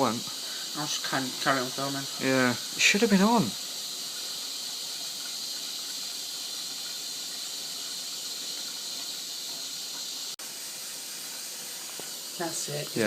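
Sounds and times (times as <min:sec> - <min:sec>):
washing machine hissing: 0:00.0 - 0:13.0.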